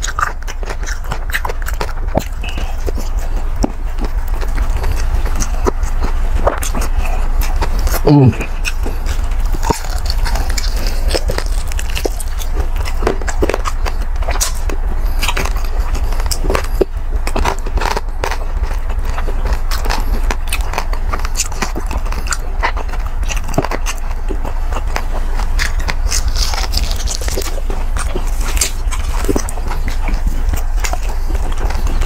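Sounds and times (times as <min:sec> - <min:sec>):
crunching and chewing food: 0:00.0 - 0:32.0
steady low hum: 0:00.0 - 0:32.0.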